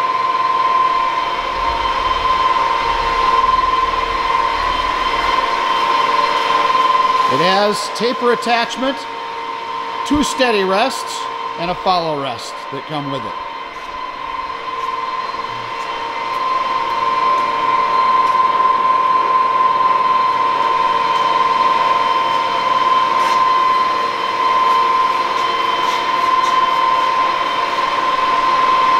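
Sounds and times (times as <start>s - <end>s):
lathe headstock whining: 0.0s - 28.9s.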